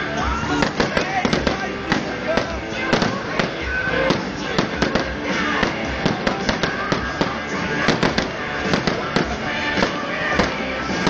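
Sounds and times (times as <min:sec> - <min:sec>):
fireworks bangs and crackles: 0:00.2 - 0:11.0.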